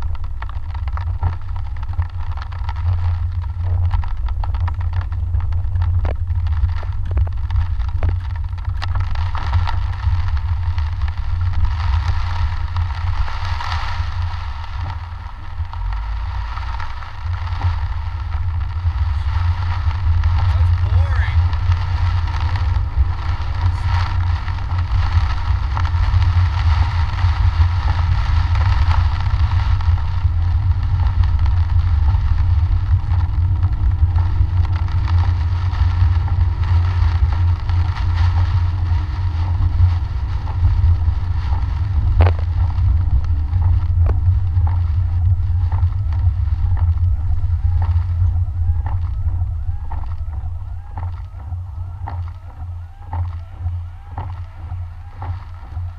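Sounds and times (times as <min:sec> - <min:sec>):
car cabin rumble: 0:00.0 - 0:55.9
rain and wet tyres hissing: 0:00.0 - 0:55.9.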